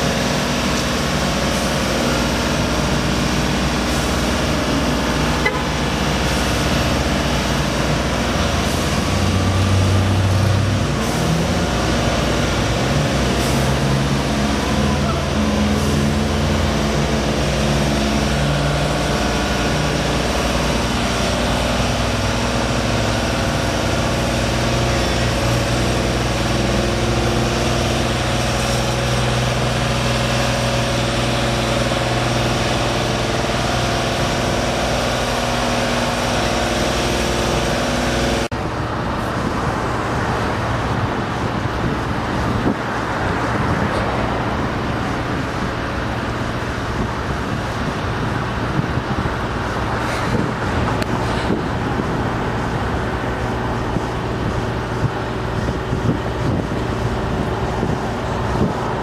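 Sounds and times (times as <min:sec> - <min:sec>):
large engine running: 0:00.0 - 0:59.0
road traffic roar: 0:00.0 - 0:59.0.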